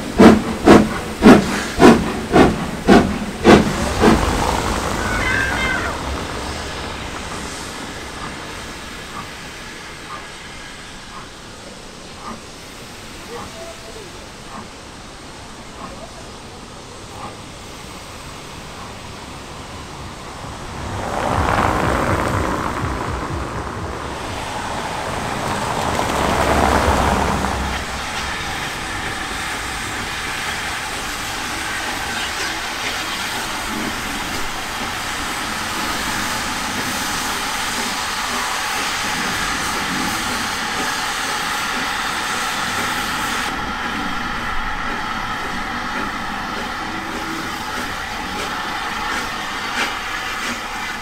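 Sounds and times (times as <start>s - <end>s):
steam engine hiss and rumble: 0.0s - 51.0s
steam locomotive exhaust: 0.0s - 51.0s.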